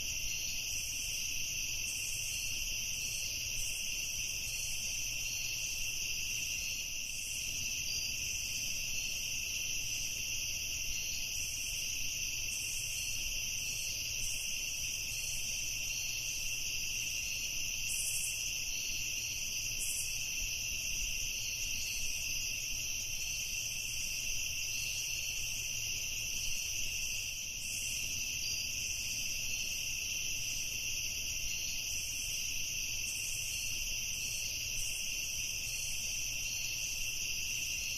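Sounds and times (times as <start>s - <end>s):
crickets trilling: 0.0s - 37.9s.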